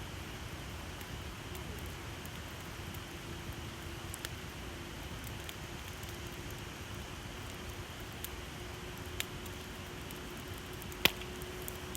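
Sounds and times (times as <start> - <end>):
campfire hissing: 0.0 - 11.9
fire crackles and pops: 0.0 - 11.9.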